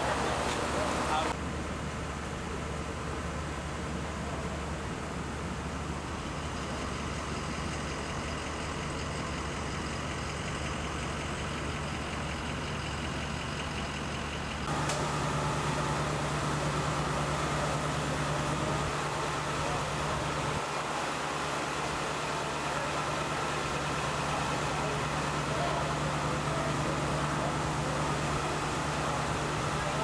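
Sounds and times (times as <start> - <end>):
vehicle engines idling: 0.0 - 30.0.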